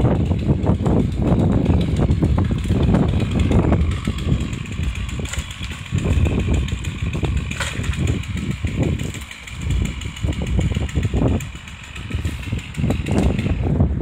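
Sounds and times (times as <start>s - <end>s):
engine running steadily: 0.0s - 14.0s
wind rumbling on microphone: 0.0s - 14.0s.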